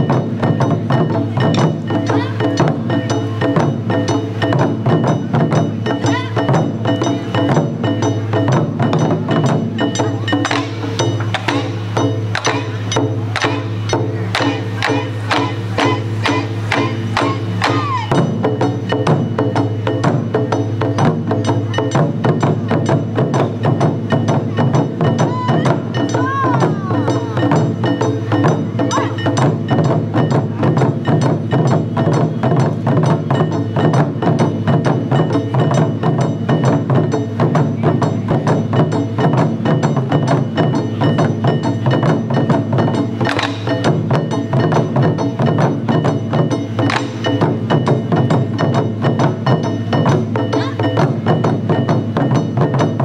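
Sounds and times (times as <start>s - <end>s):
drum ensemble playing: 0.0s - 53.0s.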